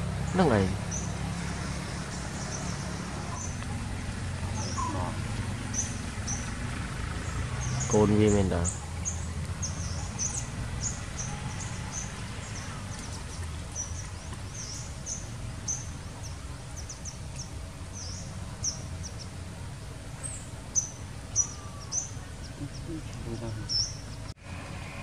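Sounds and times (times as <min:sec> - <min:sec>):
small birds chirping: 0:00.0 - 0:24.4.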